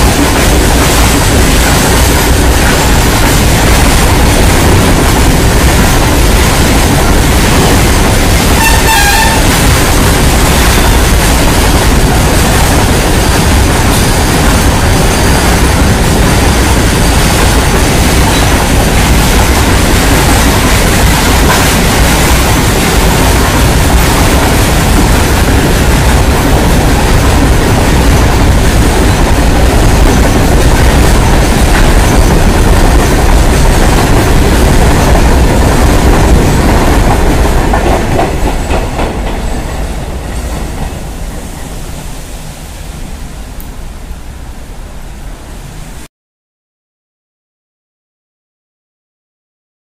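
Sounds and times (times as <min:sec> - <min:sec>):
freight train wheels rumbling on rails: 0:00.0 - 0:46.1.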